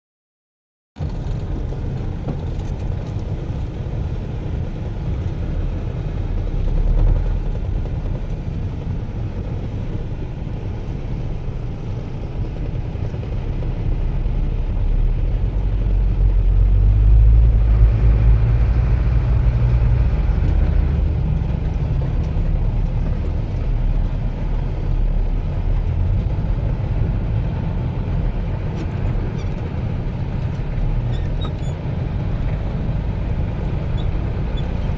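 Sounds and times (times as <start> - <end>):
diesel machinery rumbling: 1.0 - 34.9.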